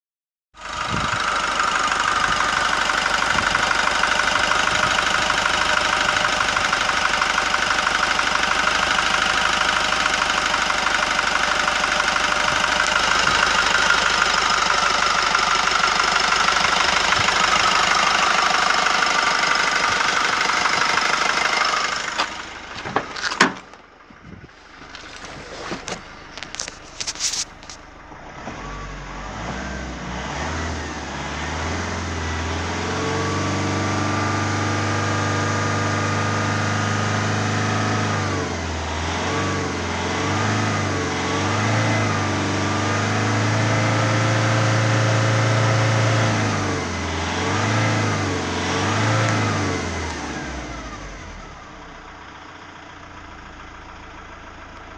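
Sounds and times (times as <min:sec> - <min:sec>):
diesel engine idling: 0:00.6 - 0:30.6, 0:31.4 - 0:54.9
engine revving: 0:00.6 - 0:52.4.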